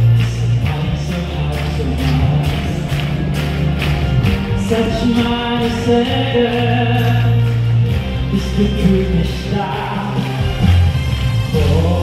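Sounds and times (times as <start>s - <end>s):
man singing into a microphone: 0.0s - 3.2s, 4.5s - 10.6s, 11.4s - 12.0s
amplified backing music: 0.0s - 12.0s.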